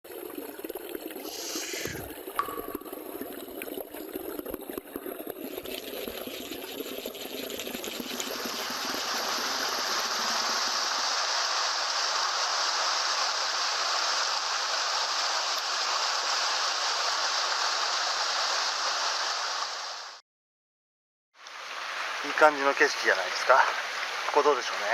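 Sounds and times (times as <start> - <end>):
stream water running over rocks: 1.2 - 19.6, 21.5 - 24.9.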